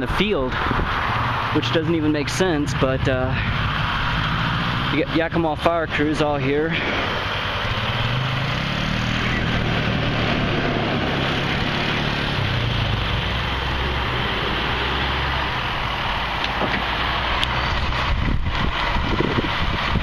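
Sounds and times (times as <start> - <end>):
broad rush of noise: 0.0 - 20.0
vehicle engine humming: 0.0 - 20.0.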